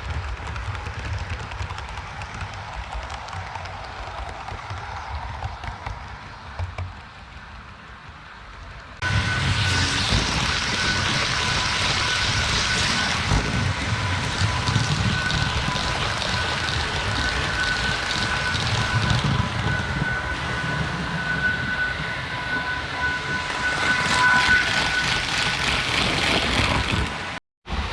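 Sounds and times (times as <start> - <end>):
model train running with whine: 0.0 - 27.9.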